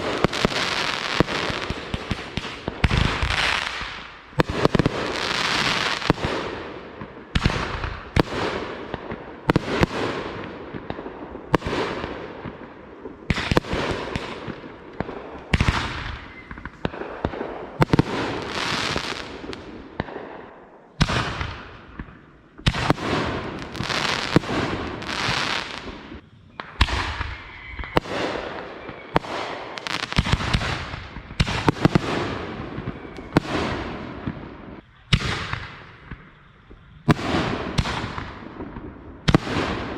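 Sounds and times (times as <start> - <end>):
fireworks bangs with hiss: 0.0 - 39.9.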